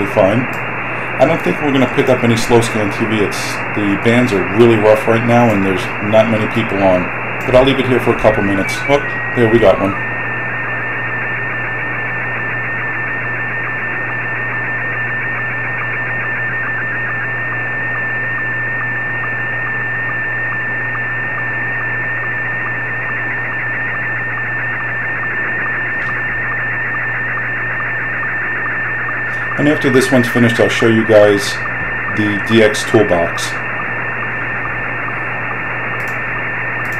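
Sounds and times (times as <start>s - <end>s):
pulsing radio tone: 0.0s - 36.9s
radio hiss: 0.0s - 36.9s.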